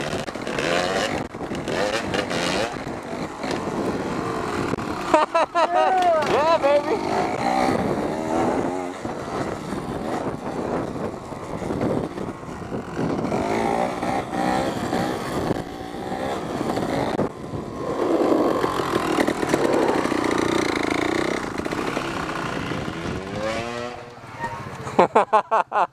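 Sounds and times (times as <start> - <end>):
dirt bike engine revving: 0.0 - 24.6.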